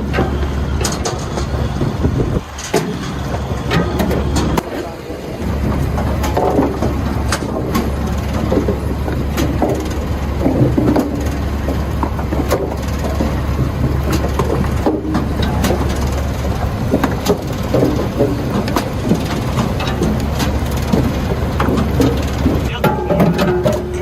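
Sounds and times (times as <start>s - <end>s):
machinery humming: 0.0s - 24.0s.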